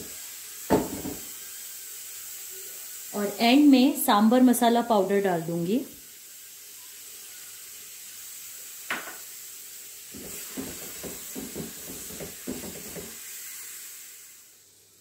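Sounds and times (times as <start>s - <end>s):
vegetables sizzling: 0.0s - 15.0s.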